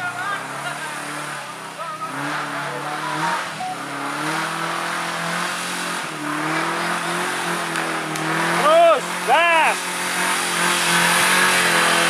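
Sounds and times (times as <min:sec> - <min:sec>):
vehicle engine revving under load: 0:00.0 - 0:12.0.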